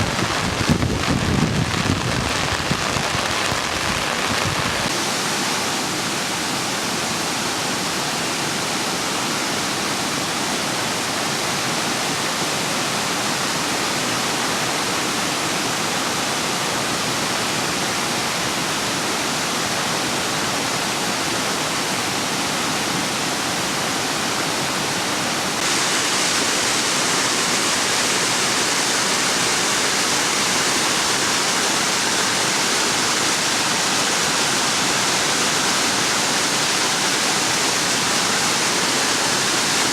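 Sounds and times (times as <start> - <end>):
water rushing down ravine: 0.0 - 39.9.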